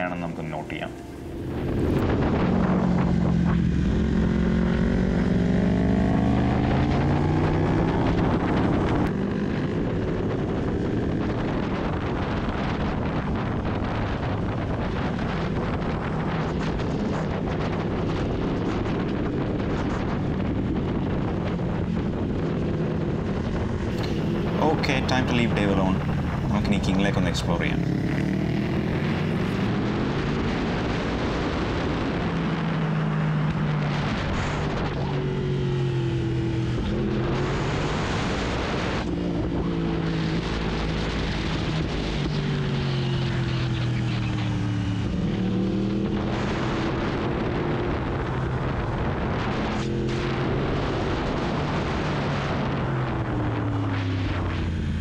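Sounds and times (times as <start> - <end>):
motorcycle engine revving: 0.0 - 55.0
wind on microphone: 0.0 - 55.0.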